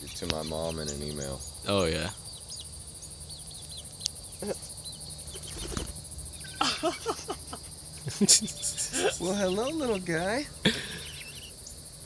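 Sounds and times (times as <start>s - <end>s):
faint high peeps: 0.0s - 11.8s
insects chirping: 0.0s - 12.0s.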